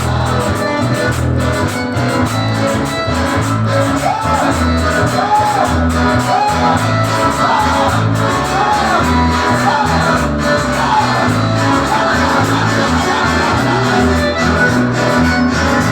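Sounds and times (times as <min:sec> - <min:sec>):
bass line: 0:00.0 - 0:15.9
guitar: 0:00.0 - 0:15.9
worship band music: 0:00.0 - 0:15.9.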